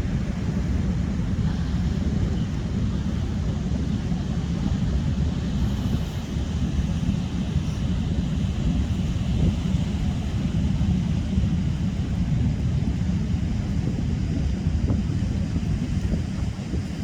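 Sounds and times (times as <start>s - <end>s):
sea surf: 0.0s - 17.0s
wind rumbling on microphone: 0.0s - 17.0s.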